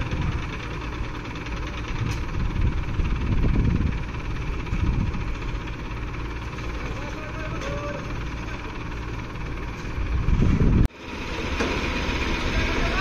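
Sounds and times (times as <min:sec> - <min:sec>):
diesel crane engine running: 0:00.0 - 0:13.0.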